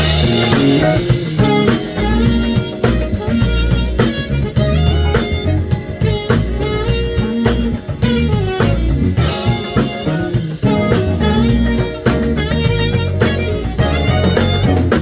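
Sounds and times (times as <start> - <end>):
drum kit: 0.0 - 15.0
electric guitar: 0.0 - 15.0
jazz band playing: 0.0 - 15.0.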